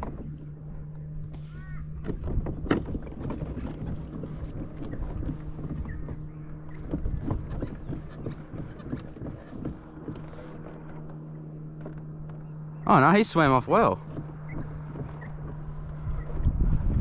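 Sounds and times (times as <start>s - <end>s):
wind rumble on microphone: 0.0s - 11.0s, 12.9s - 17.0s
boat motor humming: 0.0s - 17.0s.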